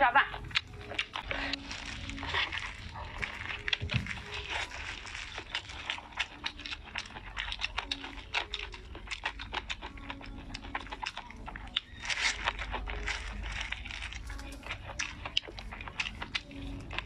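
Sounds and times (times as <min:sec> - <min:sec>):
crisp crunchy chewing: 0:00.1 - 0:17.0.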